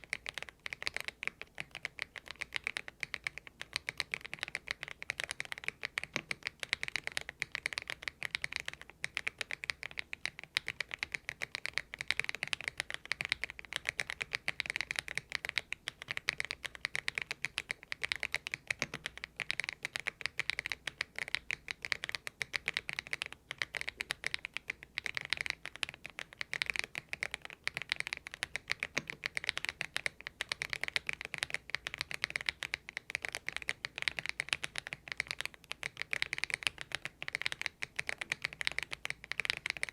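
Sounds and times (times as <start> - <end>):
rapid mechanical keyboard typing: 0.0 - 39.9.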